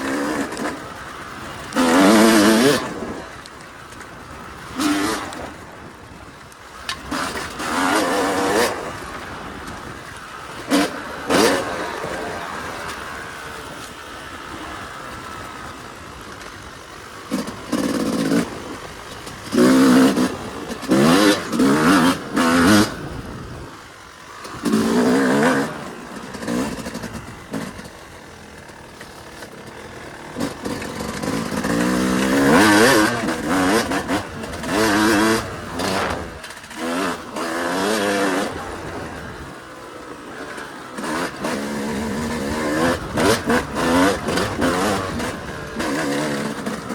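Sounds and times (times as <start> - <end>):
dirt bike engine revving: 0.0 - 3.4, 4.2 - 6.1, 6.7 - 46.9.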